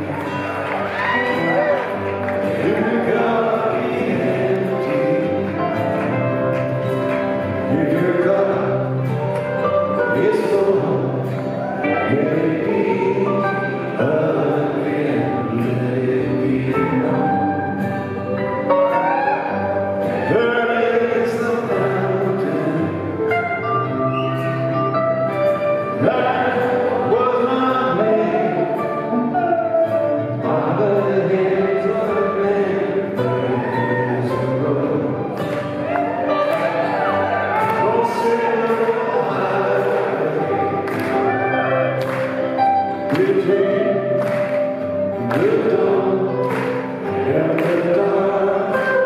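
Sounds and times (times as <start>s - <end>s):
person singing: 0.0s - 6.8s, 7.4s - 49.0s
acoustic guitar: 0.0s - 49.0s
electric guitar: 0.0s - 49.0s.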